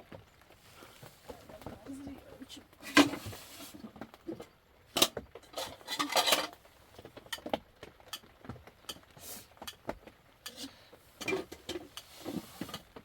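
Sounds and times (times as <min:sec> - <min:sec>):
objects handled by hand: 0:00.0 - 0:13.0.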